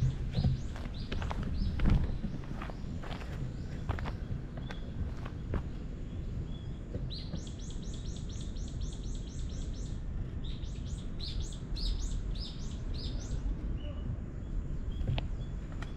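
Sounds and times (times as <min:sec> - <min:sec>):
songbird singing: 0:00.0 - 0:15.9.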